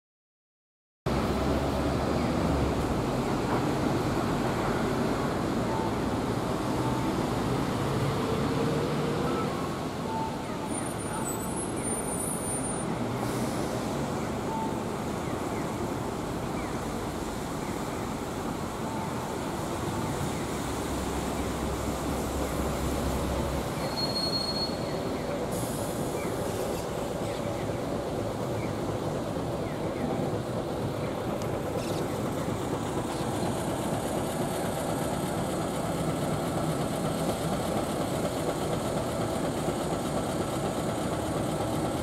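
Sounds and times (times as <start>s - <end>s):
road and rail rumble: 1.1s - 42.0s.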